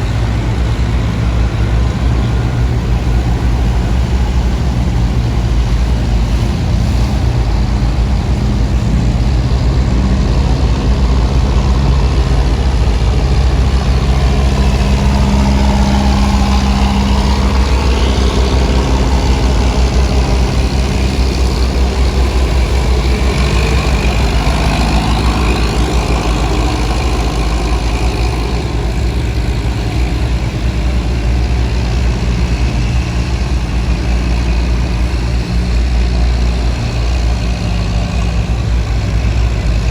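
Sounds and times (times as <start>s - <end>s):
boat diesel engine humming: 0.0s - 39.9s.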